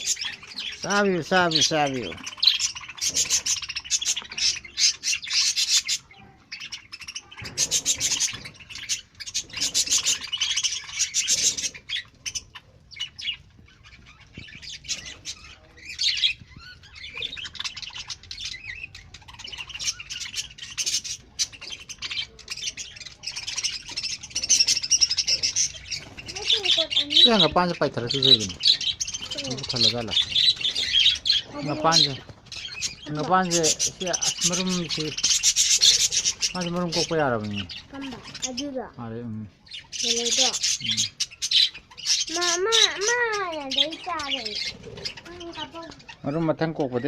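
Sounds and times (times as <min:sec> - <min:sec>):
budgerigars chattering and chirping: 0:00.0 - 0:47.0.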